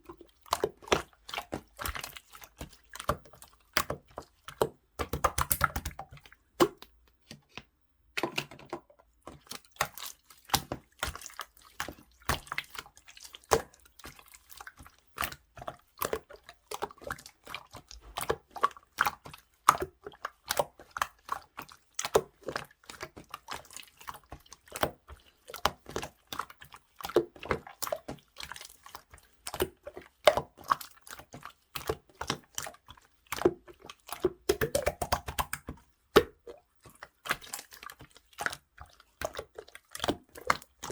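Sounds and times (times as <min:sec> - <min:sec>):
slime squishing wet clicks: 0:00.1 - 0:08.7, 0:09.3 - 0:40.9.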